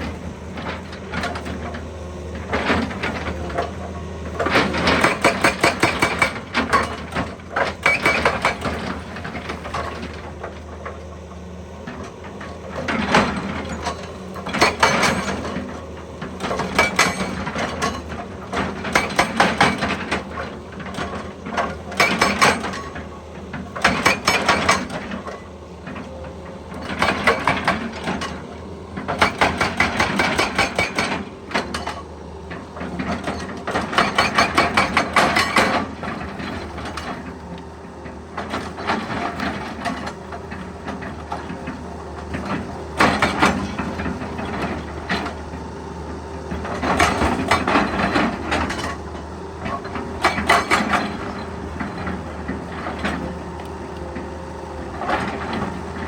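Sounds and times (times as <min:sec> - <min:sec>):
hydraulic breaker hammering rock: 0:00.0 - 0:11.0, 0:11.9 - 0:26.1, 0:26.7 - 0:37.4, 0:38.3 - 0:53.5
excavator engine running: 0:00.0 - 0:56.0.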